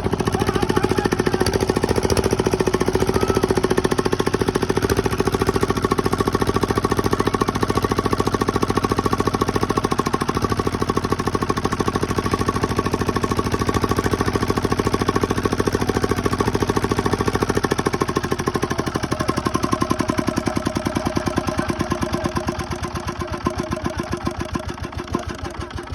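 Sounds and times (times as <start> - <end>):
diesel engine knocking: 0.0 - 25.9.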